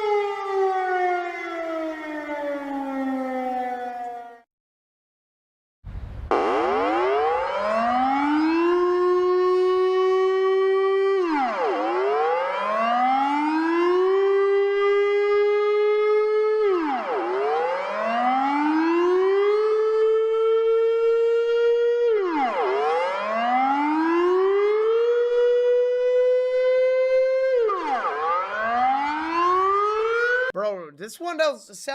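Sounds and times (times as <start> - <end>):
warning siren rising and falling: 0.0 - 4.5, 5.9 - 30.6.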